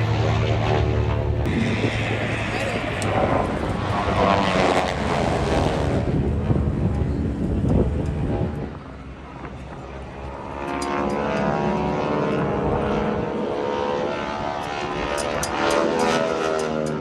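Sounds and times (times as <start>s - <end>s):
propeller airplane flying past: 0.0s - 17.0s.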